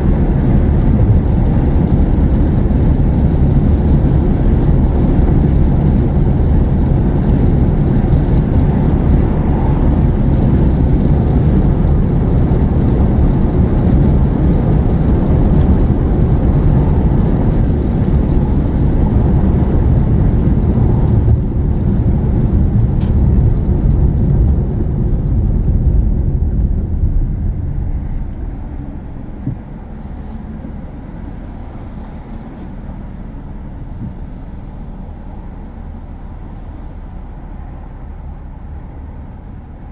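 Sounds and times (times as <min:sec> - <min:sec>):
engine and tyre rumble in car: 0:00.0 - 0:39.9.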